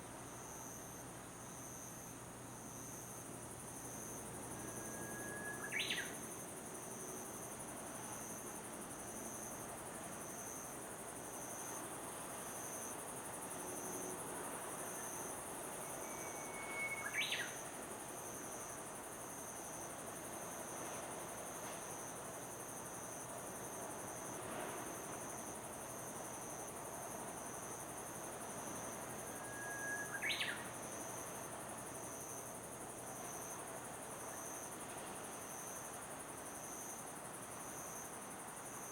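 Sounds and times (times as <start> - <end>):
faint background hiss: 0.0 - 38.9
insects trilling: 0.3 - 38.9.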